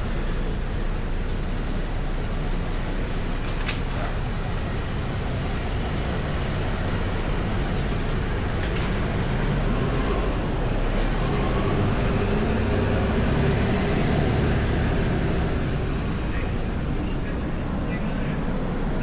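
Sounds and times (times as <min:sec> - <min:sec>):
city street noise: 0:00.0 - 0:19.0.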